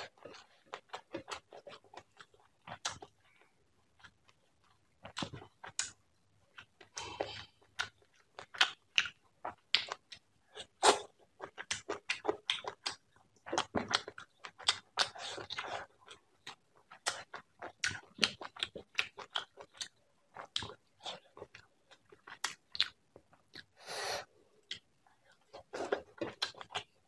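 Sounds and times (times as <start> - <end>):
chewing and mouth smacks: 0.0 - 23.8, 24.6 - 27.0.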